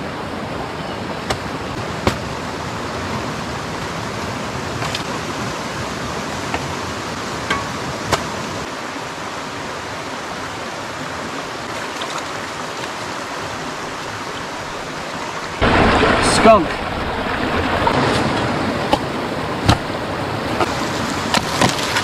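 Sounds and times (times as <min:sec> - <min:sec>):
brook running over rocks: 0:02.2 - 0:22.0.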